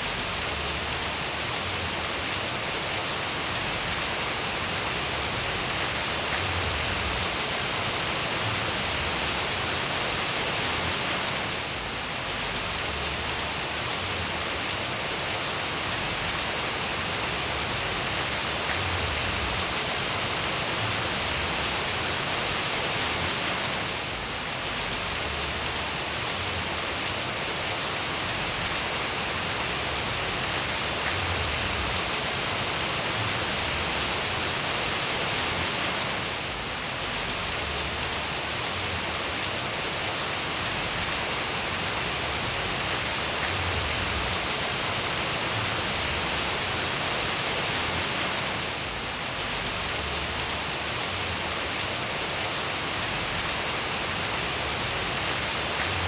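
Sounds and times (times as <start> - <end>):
dense rainfall hissing: 0.0 - 56.0.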